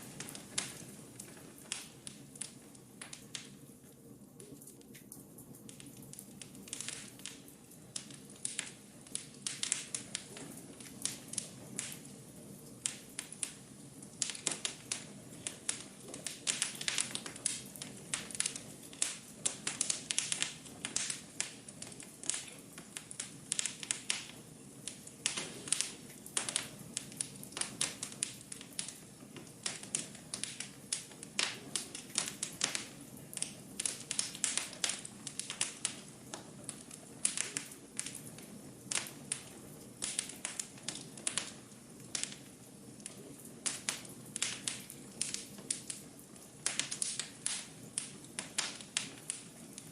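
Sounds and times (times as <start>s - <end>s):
low rumble of flame: 0.0s - 49.9s
wood fire crackling and popping: 0.0s - 49.9s.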